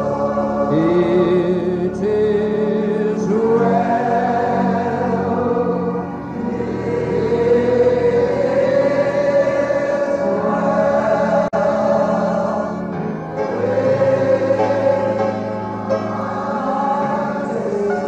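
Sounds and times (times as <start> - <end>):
choir singing held chords: 0.0 - 18.0
instrumental accompaniment: 0.0 - 18.0.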